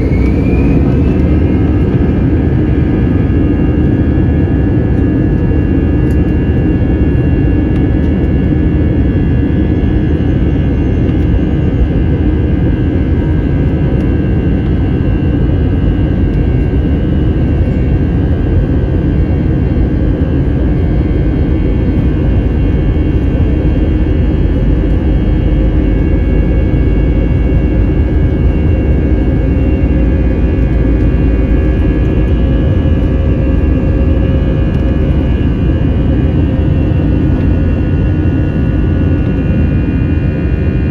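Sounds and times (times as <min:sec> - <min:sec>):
jet engine rumble and whine: 0:00.0 - 0:40.9.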